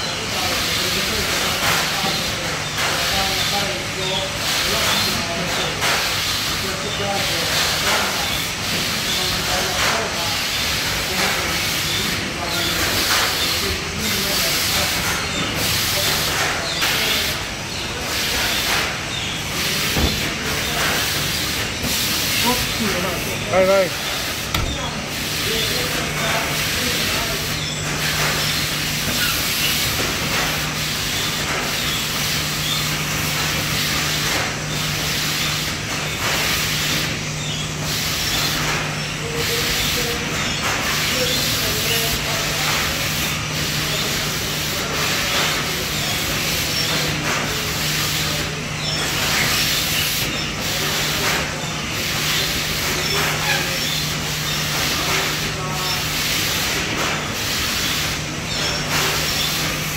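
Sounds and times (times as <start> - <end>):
machine hiss: 0.0 - 59.9.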